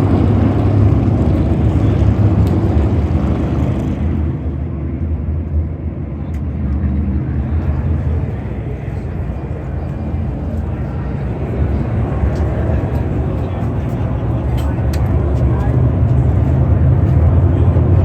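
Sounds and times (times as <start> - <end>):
race car engines rumbling: 0.0 - 18.0.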